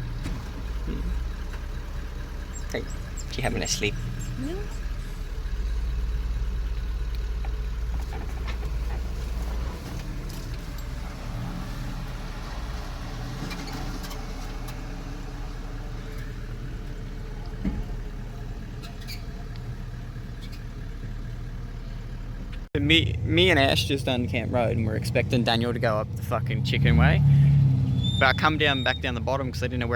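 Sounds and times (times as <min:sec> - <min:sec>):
vehicle engine rumbling: 0:00.0 - 0:29.9.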